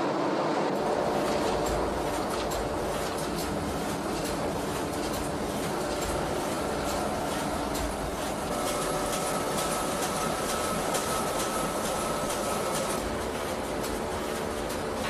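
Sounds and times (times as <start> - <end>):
machinery rumble and clatter: 0.0 - 15.0.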